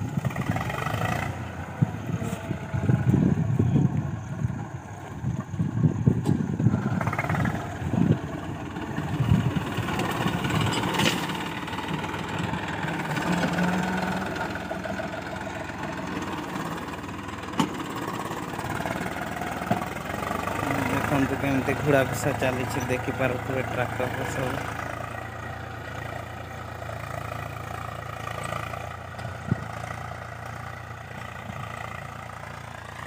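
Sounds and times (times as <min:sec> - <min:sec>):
low rumbles: 0:00.0 - 0:33.0
tractor diesel engine running: 0:00.0 - 0:33.0.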